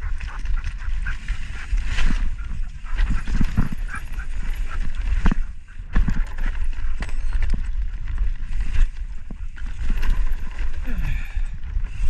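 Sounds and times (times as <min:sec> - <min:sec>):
bike rattling over rocks: 0:00.0 - 0:12.0
wind on microphone: 0:00.0 - 0:12.0.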